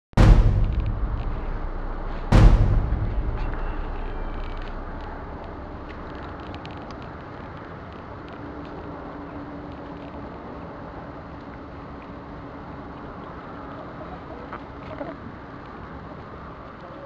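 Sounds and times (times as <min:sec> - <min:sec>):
outdoor rumble and hiss: 0:00.2 - 0:17.0.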